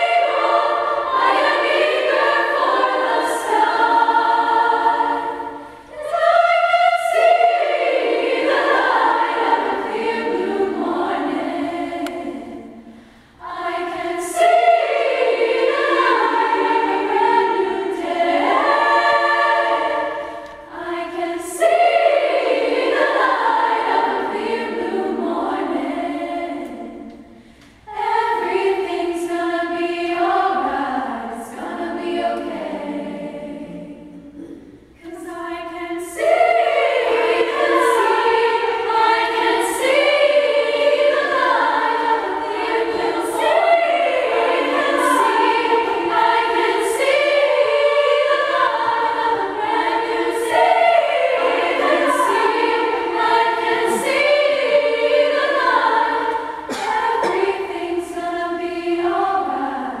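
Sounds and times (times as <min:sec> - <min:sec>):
women's choir singing: 0:00.0 - 1:00.0.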